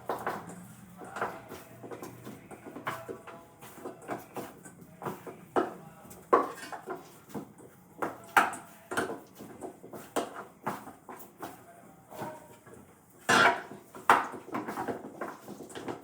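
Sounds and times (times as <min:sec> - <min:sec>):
dishes and utensils clinking: 0:00.0 - 0:16.0.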